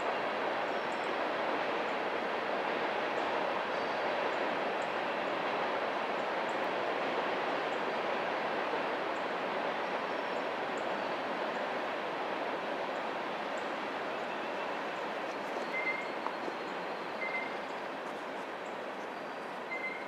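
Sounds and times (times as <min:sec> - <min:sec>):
train passing on rails: 0:00.0 - 0:20.0.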